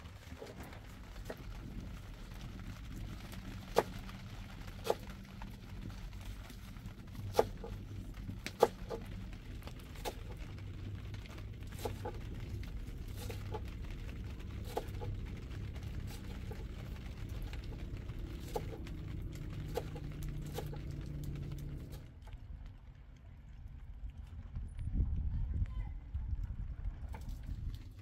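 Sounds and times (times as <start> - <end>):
steady low hum: 0.0 - 25.3.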